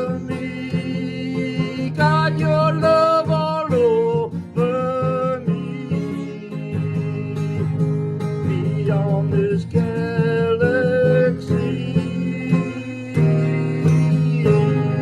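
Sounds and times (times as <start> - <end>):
acoustic guitar country-style playing: 0.0 - 15.0.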